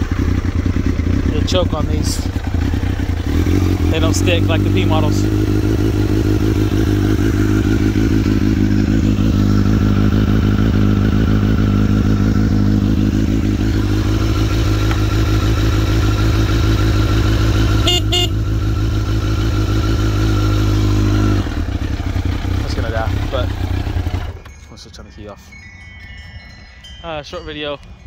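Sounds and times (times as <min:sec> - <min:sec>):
motorcycle engine idling: 0:00.0 - 0:25.2.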